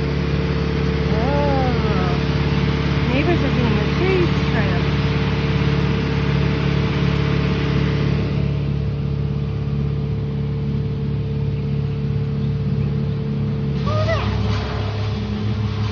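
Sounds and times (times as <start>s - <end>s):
large engine droning: 0.0s - 15.9s.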